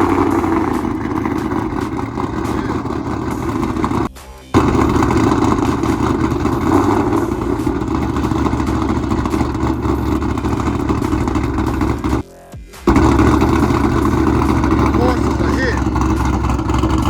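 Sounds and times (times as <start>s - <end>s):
car engine through loud exhaust: 0.0s - 12.2s, 12.9s - 17.0s.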